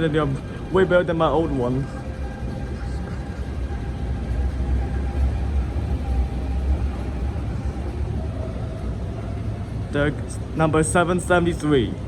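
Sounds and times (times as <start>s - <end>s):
electric train rumbling on track: 0.0s - 12.0s
faint constant hum: 0.0s - 12.0s.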